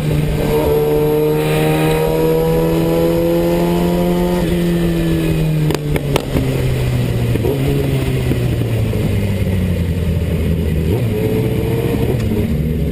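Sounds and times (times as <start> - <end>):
motorcycle engine slowing: 0.0 - 12.9
wind rumbling over microphone: 0.0 - 12.9.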